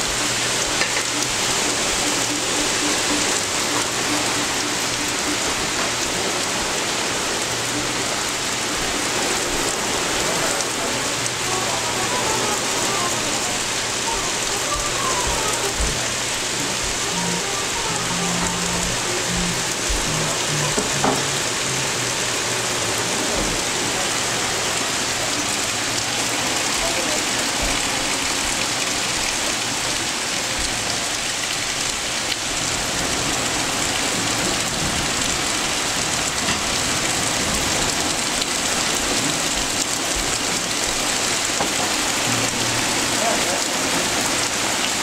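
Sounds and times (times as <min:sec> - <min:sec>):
heavy rain on trees and deck: 0:00.0 - 0:45.0.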